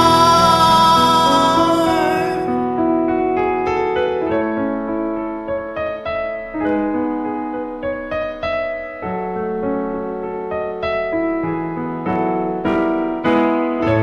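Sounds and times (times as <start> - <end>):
slow piano ballad: 0.0 - 14.0.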